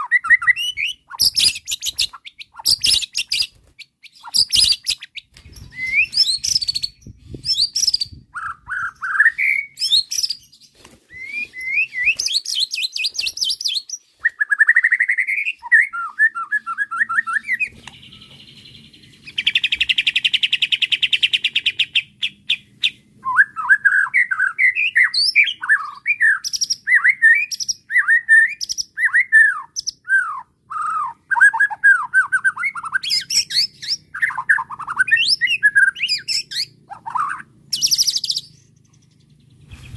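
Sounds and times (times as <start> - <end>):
bird singing whistled phrases: 0.0 - 38.6.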